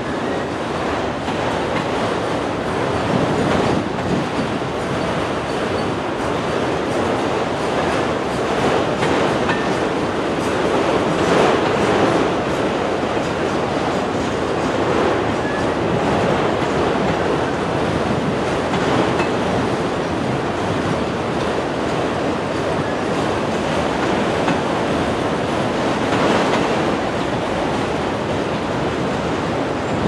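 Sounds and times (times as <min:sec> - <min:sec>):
steel wheels on rails: 0:00.0 - 0:30.0.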